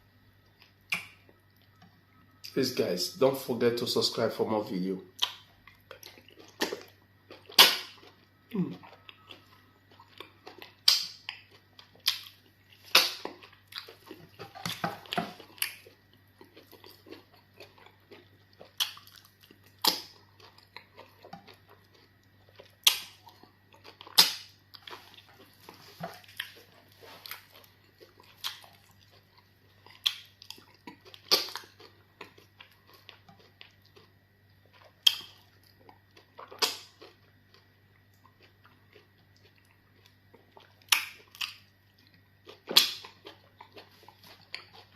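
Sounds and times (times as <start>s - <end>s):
faint steady hum: 0.0s - 44.9s
wet chewing and smacks: 0.5s - 1.8s, 5.1s - 44.9s.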